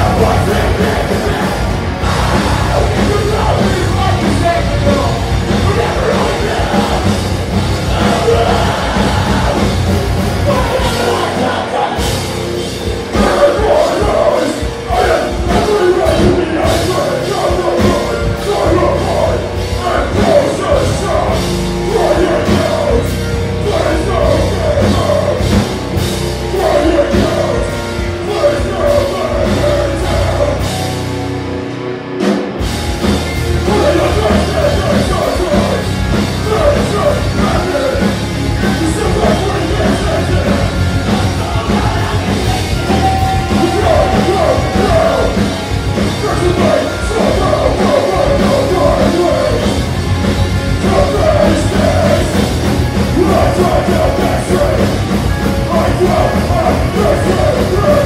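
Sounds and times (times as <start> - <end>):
person singing: 0.0 - 25.6, 26.4 - 30.8, 33.4 - 49.8, 50.6 - 58.0
bass guitar: 0.0 - 58.0
drum kit: 0.0 - 58.0
electric guitars: 0.0 - 58.0.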